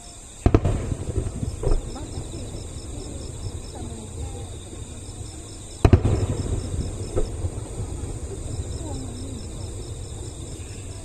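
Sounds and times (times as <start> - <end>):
fireworks booming: 0.0 - 11.0
steady low rumble: 0.5 - 11.0.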